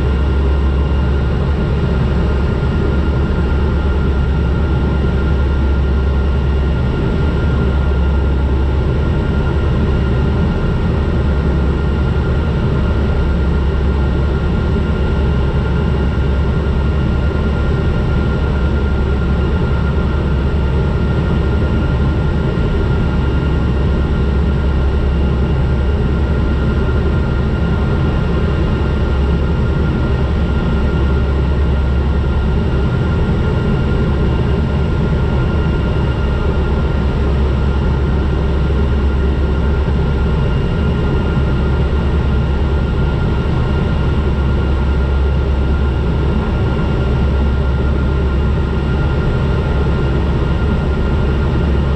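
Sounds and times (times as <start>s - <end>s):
turboprop engine drone: 0.0s - 51.9s.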